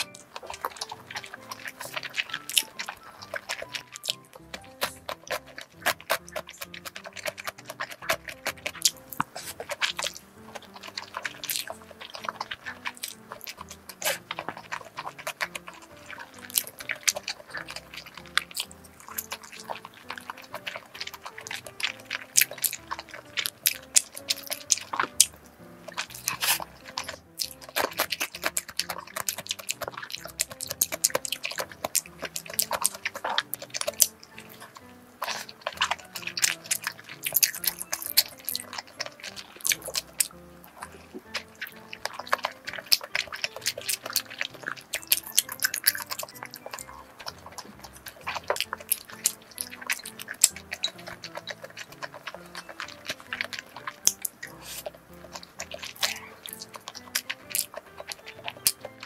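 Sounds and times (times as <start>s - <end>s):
biting a dumpling: 0.0s - 59.0s
chewing noodles: 0.0s - 59.0s
chopsticks against wooden dish: 0.0s - 59.0s
soft background music: 0.0s - 59.0s.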